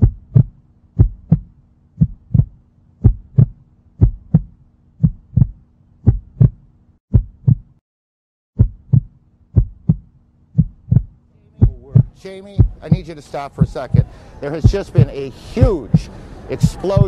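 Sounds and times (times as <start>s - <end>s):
heartbeat thumps: 0.0s - 7.8s, 8.6s - 17.0s.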